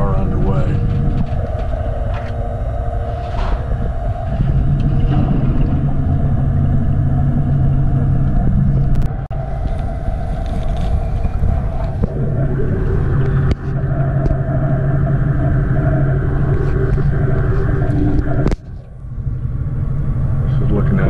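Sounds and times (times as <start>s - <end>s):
ship's engines rumbling: 0.0s - 21.0s.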